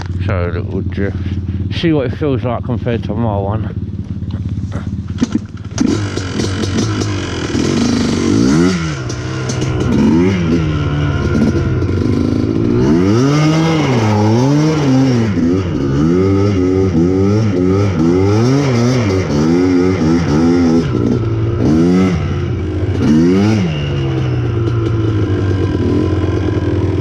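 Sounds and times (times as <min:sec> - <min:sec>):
quad bike engine revving: 0:00.0 - 0:27.0.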